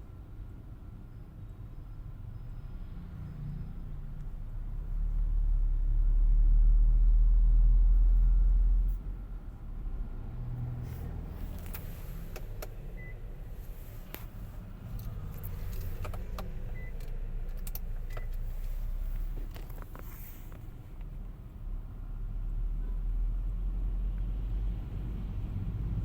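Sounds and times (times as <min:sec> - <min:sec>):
steady low rumble: 0:00.8 - 0:23.2.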